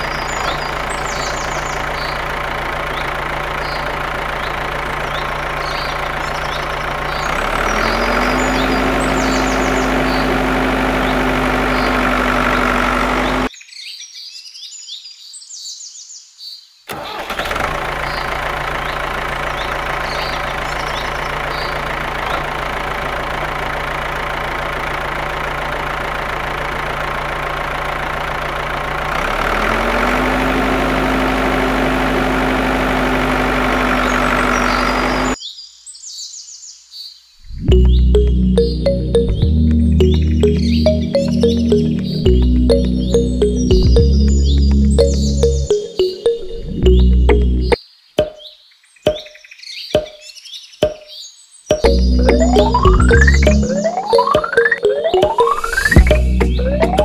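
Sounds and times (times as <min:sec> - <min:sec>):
tractor engine running: 0:00.0 - 0:13.5, 0:16.9 - 0:35.4, 0:37.7 - 0:47.8, 0:51.7 - 0:57.0
birds chirping: 0:00.0 - 0:14.2, 0:18.0 - 0:26.0, 0:33.0 - 0:57.0.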